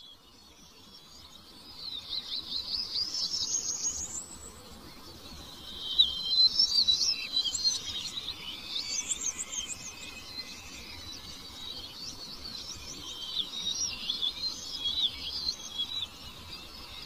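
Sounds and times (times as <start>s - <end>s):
bird whistled glides: 1.9s - 17.0s.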